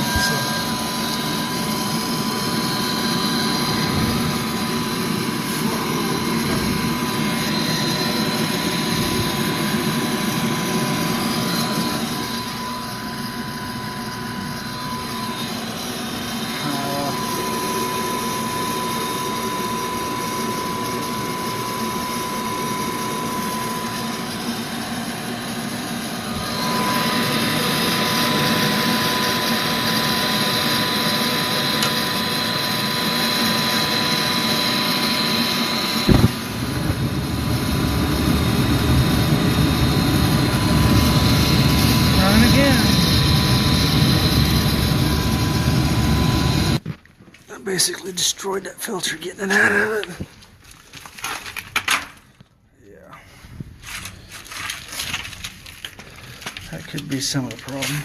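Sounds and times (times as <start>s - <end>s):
thin constant whine: 0.0s - 51.7s
furnace fan drone: 0.0s - 58.0s.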